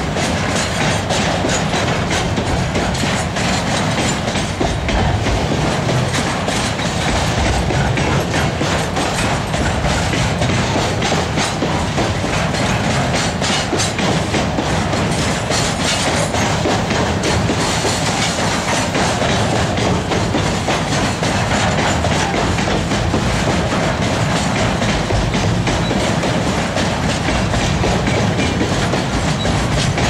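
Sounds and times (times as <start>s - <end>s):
freight train rumbling past: 0.0s - 30.0s
wheels clacking over rail joints: 0.0s - 30.0s.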